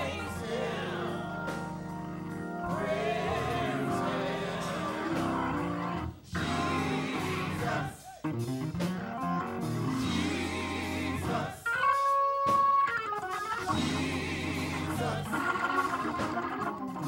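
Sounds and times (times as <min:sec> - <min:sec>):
gospel group singing: 0:00.0 - 0:08.3, 0:09.6 - 0:12.2, 0:13.6 - 0:16.6
band accompaniment: 0:00.0 - 0:17.0.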